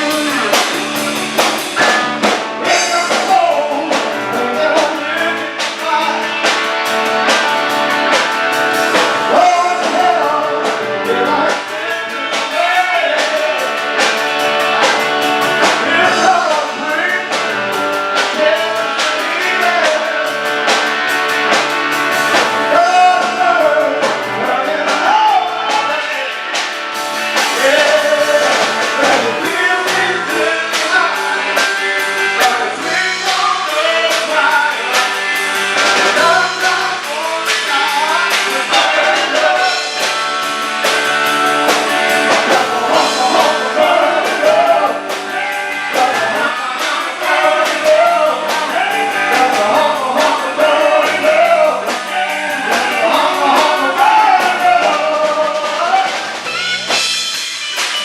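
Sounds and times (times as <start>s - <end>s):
person singing: 0.0s - 8.3s, 8.9s - 21.6s, 22.2s - 58.0s
drums: 0.0s - 58.0s
electric guitar: 0.0s - 58.0s.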